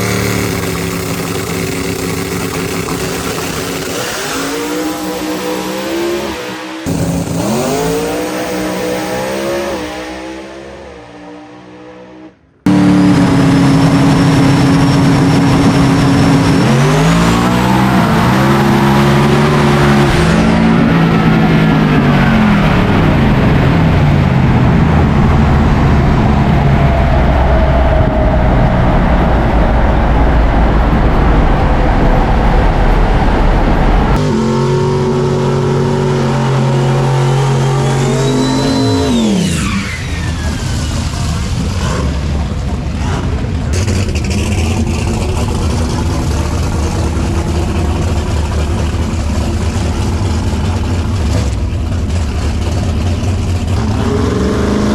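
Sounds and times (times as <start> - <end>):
drag racing engines revving: 0.0 - 54.9.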